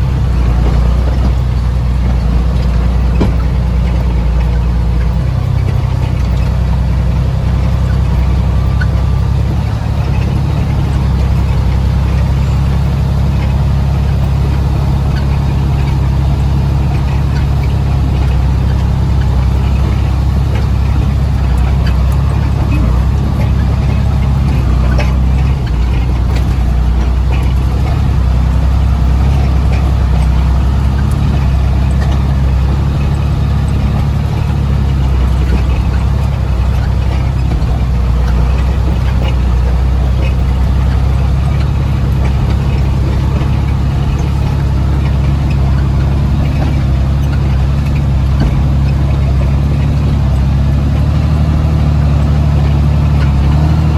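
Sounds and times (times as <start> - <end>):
diesel engine running: 0.0 - 53.9
faint clicks and knocks: 0.0 - 53.9.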